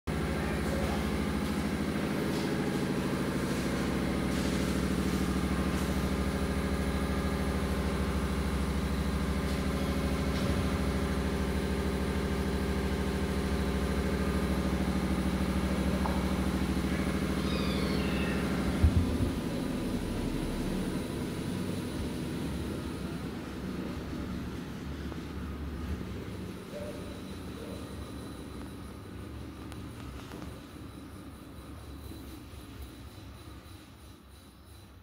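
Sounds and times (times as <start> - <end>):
steady engine hum: 0.1 - 35.0.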